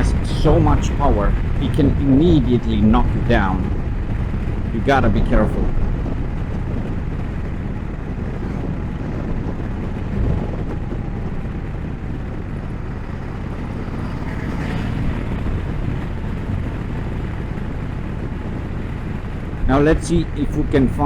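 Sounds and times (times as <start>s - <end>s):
motorcycle engine running: 0.0s - 20.2s
wind rumbling on microphone: 0.0s - 21.0s.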